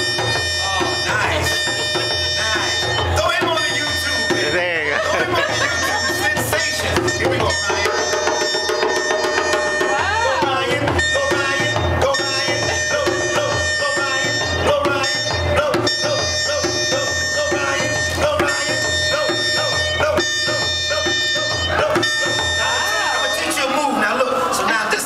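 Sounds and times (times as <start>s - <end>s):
hand drums beating: 0.0s - 22.9s
buzzy toy wind instrument drone: 0.0s - 23.7s.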